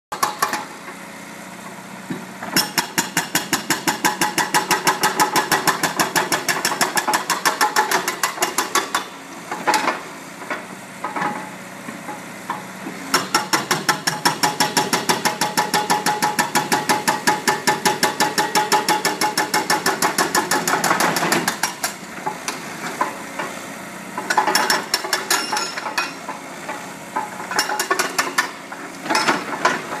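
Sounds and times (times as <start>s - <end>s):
hydraulic breaker hammering concrete: 0.1s - 0.8s, 2.6s - 9.9s, 12.4s - 23.2s, 24.2s - 30.0s.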